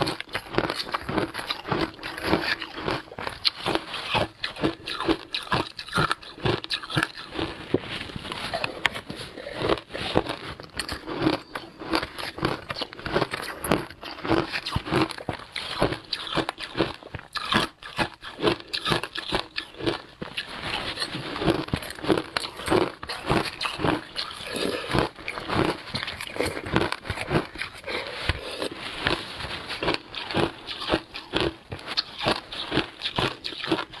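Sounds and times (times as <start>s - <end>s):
crunching frozen ice: 0.0s - 34.0s.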